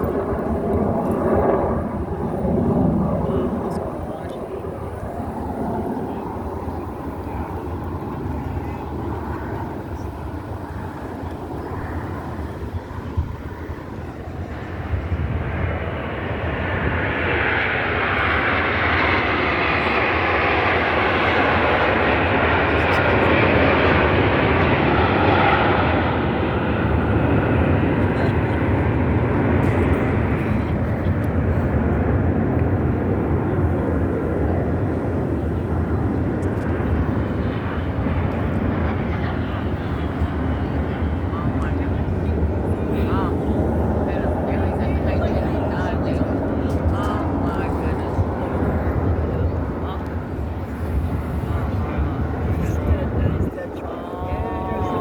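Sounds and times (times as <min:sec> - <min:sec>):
airplane engine roar: 0:00.0 - 0:55.0.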